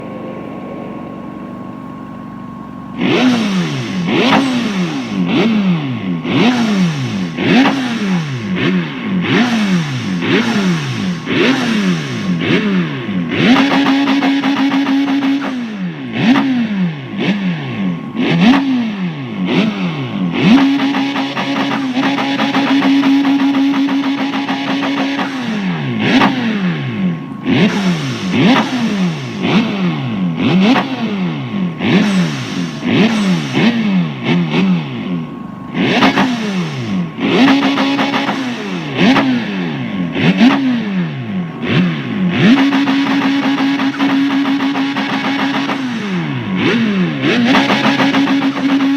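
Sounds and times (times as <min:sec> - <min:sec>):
rotary engine revving: 0:00.0 - 0:48.9.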